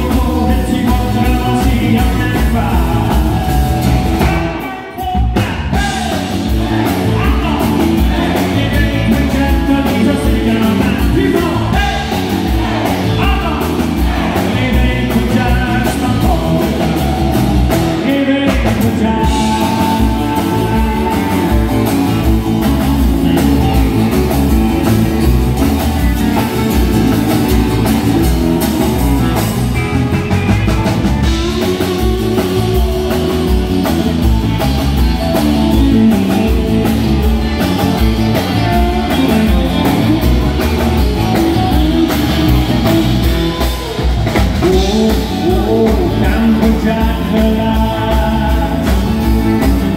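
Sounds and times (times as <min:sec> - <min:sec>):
country-rock band playing: 0:00.0 - 0:49.9
man singing: 0:00.0 - 0:49.9.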